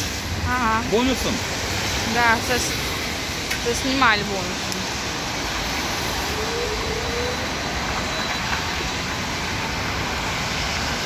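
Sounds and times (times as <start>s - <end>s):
traffic hiss on wet road: 0.0s - 11.0s.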